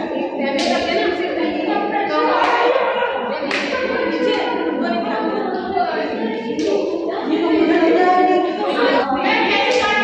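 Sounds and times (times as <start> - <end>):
women singing: 0.0 - 10.0.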